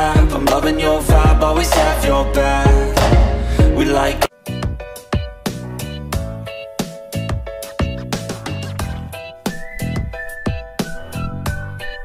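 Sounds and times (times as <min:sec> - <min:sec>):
dense background music: 0:00.0 - 0:10.0
music with steady drum beat: 0:00.0 - 0:11.7.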